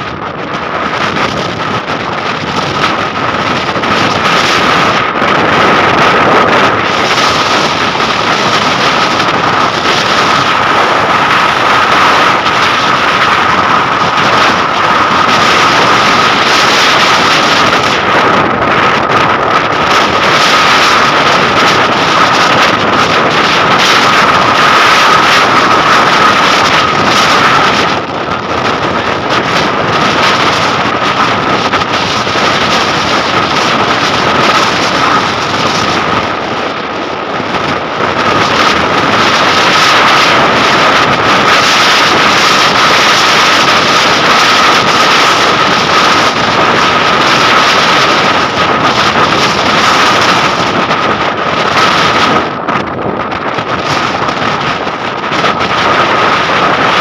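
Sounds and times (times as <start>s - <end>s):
steady high whine: 0.0s - 57.0s
wind buffeting microphone: 0.0s - 57.0s.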